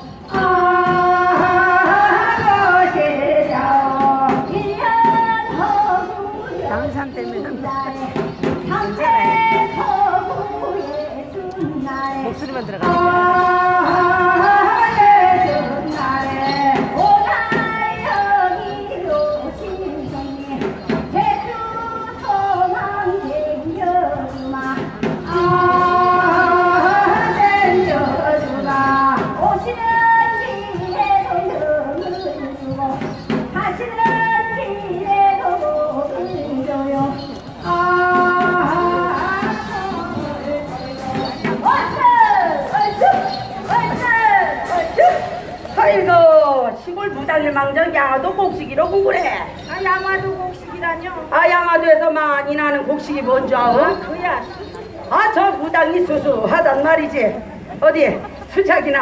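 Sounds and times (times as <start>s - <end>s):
solo folk singing: 0.0s - 49.0s.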